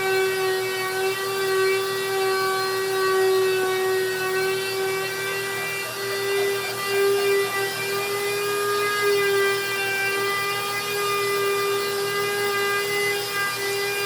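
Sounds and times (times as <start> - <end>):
electric power tool whining: 0.0 - 14.0.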